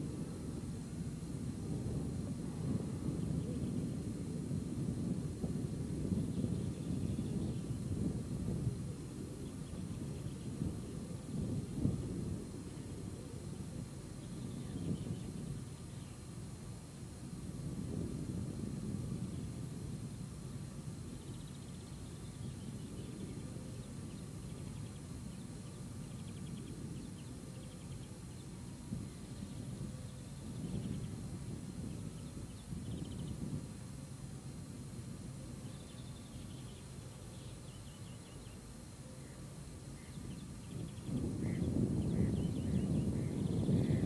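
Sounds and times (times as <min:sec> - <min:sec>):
small birds chirping: 0:00.0 - 0:44.0
steady low rumble: 0:00.0 - 0:44.0.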